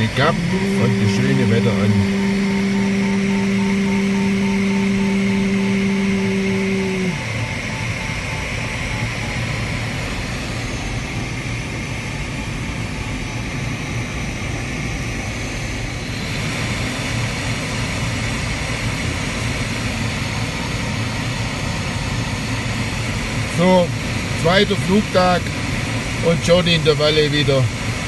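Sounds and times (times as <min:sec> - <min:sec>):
airflow rushing around cockpit: 0:00.0 - 0:28.0.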